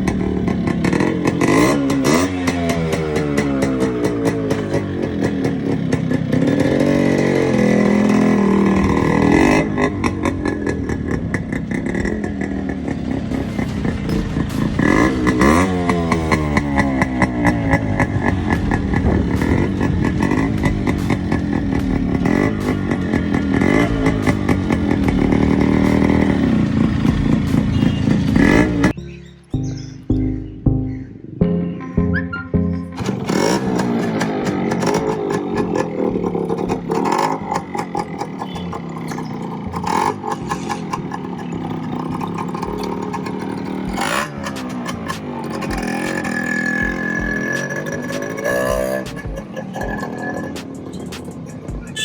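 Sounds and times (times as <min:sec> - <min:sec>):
two-stroke motorcycle engine revving: 0:00.0 - 0:31.3, 0:32.9 - 0:52.0.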